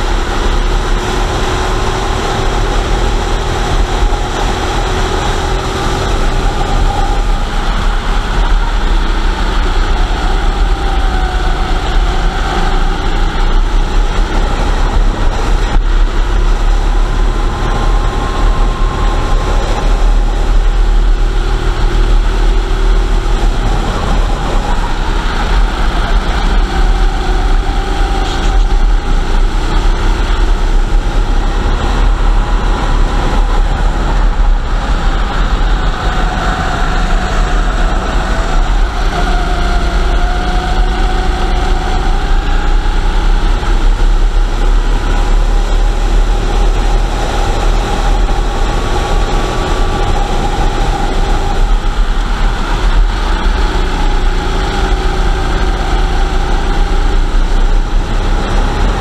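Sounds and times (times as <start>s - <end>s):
go-kart engine running: 0.0s - 59.0s
wind rumble on microphone: 0.0s - 59.0s.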